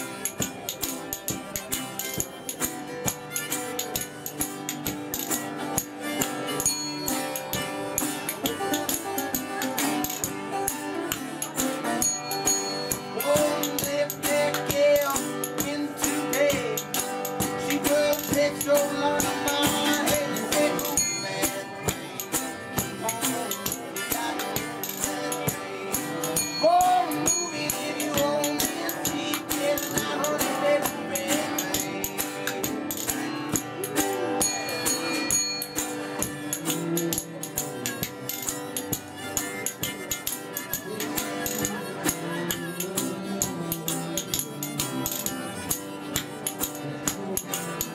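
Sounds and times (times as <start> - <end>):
acoustic guitars: 0.0 - 47.9
harmonica: 0.0 - 47.9
spoons clicking a rhythm: 0.0 - 47.9.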